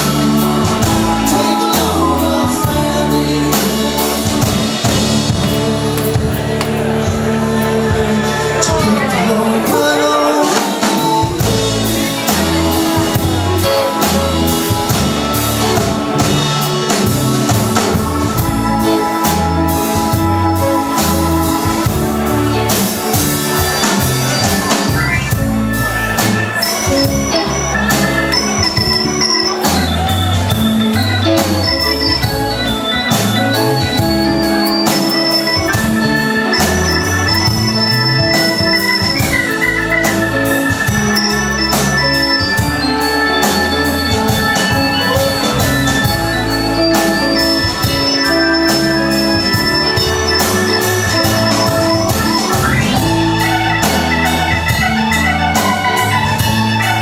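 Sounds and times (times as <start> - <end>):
bass line: 0.0 - 57.0
drums: 0.0 - 57.0
organ: 0.0 - 57.0.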